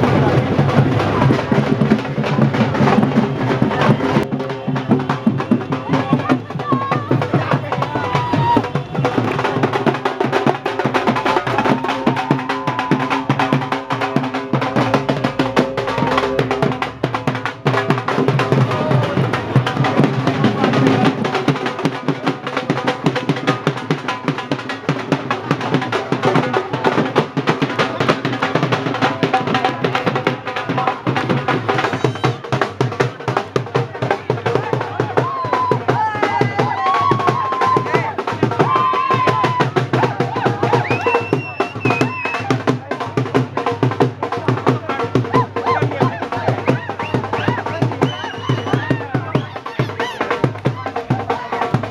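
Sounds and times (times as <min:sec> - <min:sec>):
fast drumming: 0:00.0 - 0:51.9.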